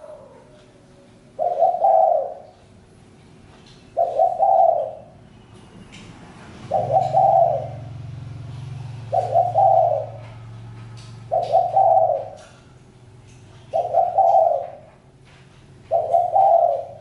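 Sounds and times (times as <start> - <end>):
dove cooing: 0.0 - 2.6, 3.9 - 5.2, 6.6 - 12.8, 13.5 - 17.0.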